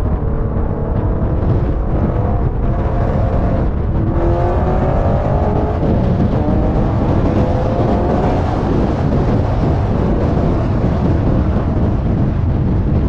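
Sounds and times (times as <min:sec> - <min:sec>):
car exhaust droning: 0:00.0 - 0:13.0
wind rushing on camera: 0:00.0 - 0:13.0.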